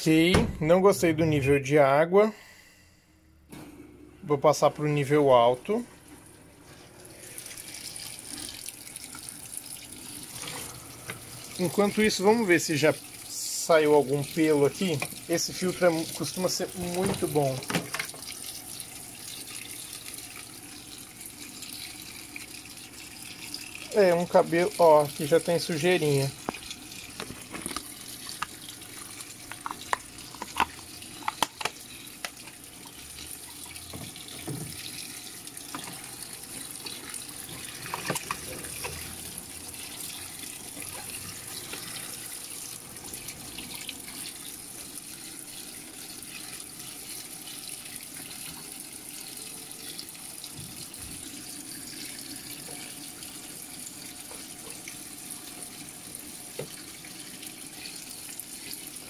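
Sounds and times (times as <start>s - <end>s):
water rushing into washing machine: 5.7s - 59.0s.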